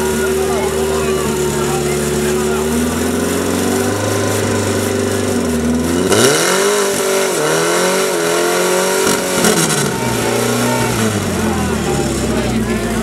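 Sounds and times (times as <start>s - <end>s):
pump engine revving: 0.0s - 13.0s.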